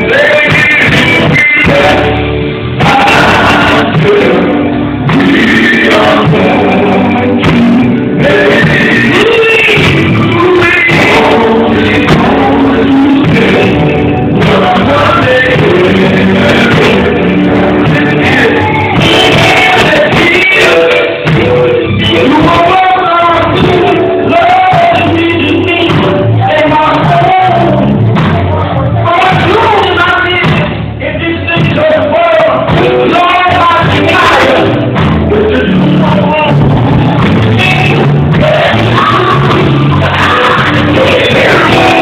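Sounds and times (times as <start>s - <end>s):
bass guitar: 0.0s - 42.0s
drum kit: 0.0s - 42.0s
electric guitar: 0.0s - 42.0s
male vocal group singing: 0.0s - 42.0s.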